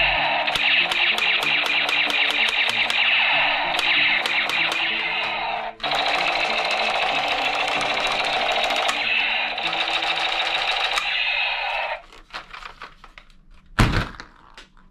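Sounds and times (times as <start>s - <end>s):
toy rifle machine-gun sound effect: 0.0s - 12.0s.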